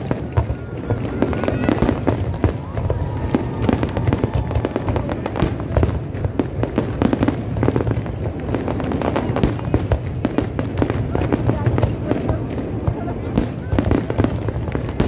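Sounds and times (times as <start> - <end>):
fireworks cracks and booms: 0.0 - 15.0.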